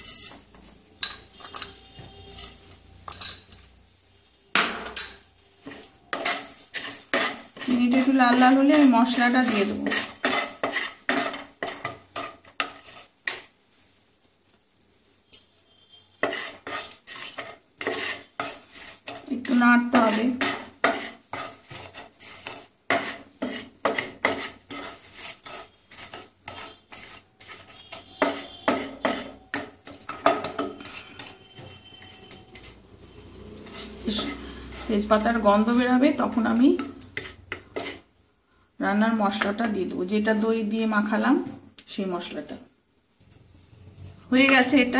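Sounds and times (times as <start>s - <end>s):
wooden spatula scraping a pan: 0.0s - 38.2s.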